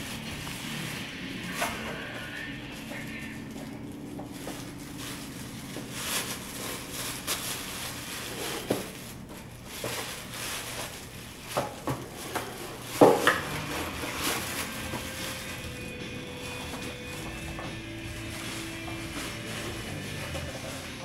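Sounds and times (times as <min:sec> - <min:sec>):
tissue paper rustling: 0:00.0 - 0:21.0.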